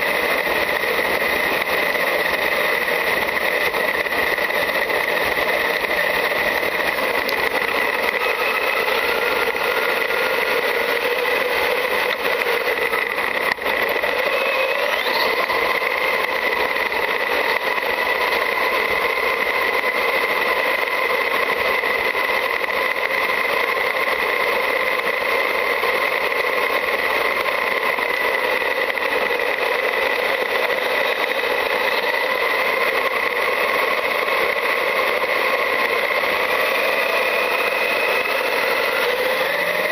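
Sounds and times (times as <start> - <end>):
electric drivetrain whine: 0.0 - 39.9
toy truck running hiss: 0.0 - 39.9.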